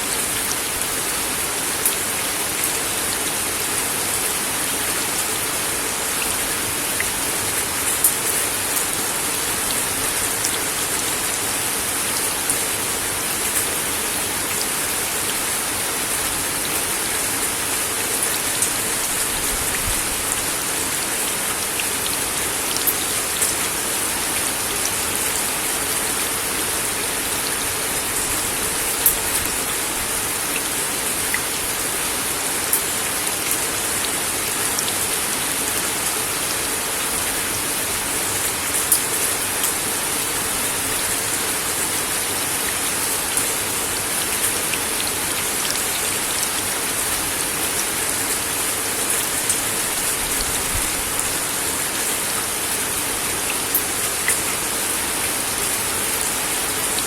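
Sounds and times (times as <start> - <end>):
rain on a wooden deck: 0.0 - 57.0.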